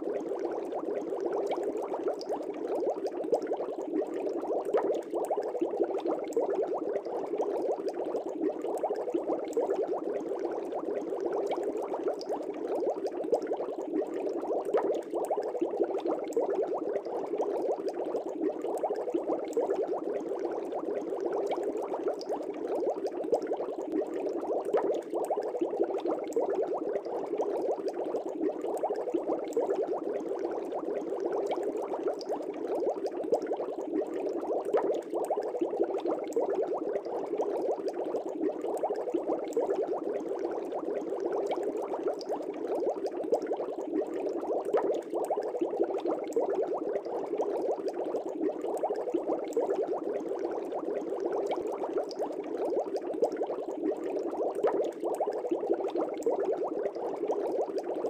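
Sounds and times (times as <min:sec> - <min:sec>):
aquarium air bubbling: 0:00.0 - 0:58.0.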